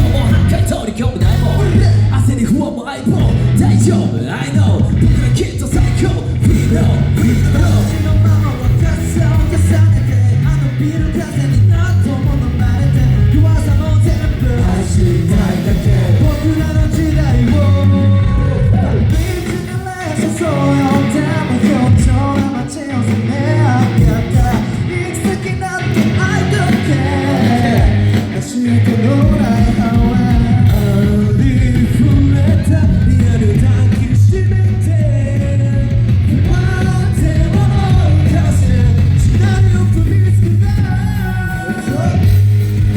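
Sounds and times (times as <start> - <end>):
group singing a pop song: 0.0 - 35.6, 36.2 - 42.3
amplified backing music: 0.0 - 42.9.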